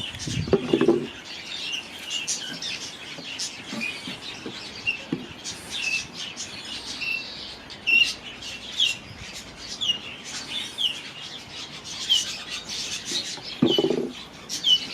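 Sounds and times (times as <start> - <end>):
birds chirping sharply: 0.0 - 14.9
soft bird chatter: 0.0 - 14.9.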